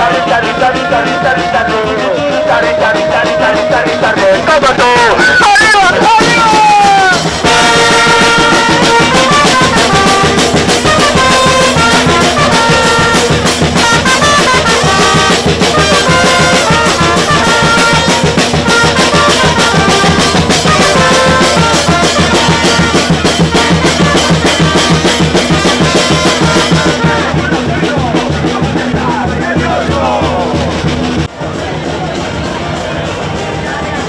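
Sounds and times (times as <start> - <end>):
trumpets and trombones melody: 0.0 - 31.3
fast drum beat: 0.0 - 34.0.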